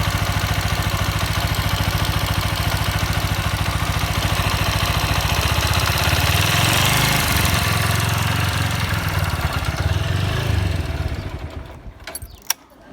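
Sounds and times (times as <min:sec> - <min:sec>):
motorcycle engine running steadily: 0:00.0 - 0:12.4.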